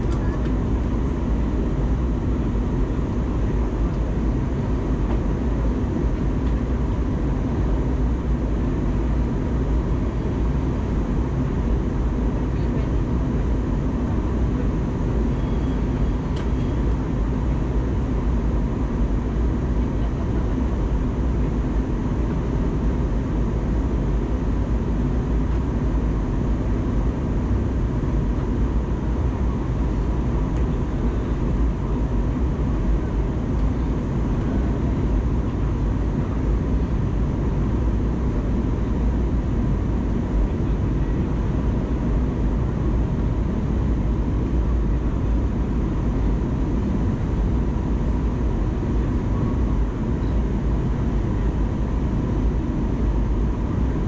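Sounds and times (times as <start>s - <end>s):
faint steady hum: 0.0s - 54.0s
jet engines running: 0.0s - 54.0s.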